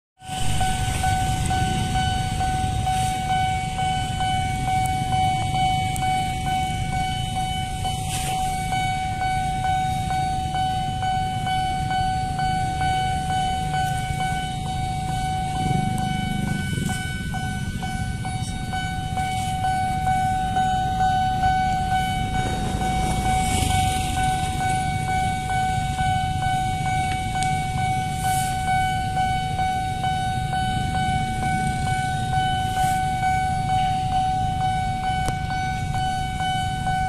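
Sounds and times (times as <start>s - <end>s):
level crossing warning alarm: 0.2s - 37.0s.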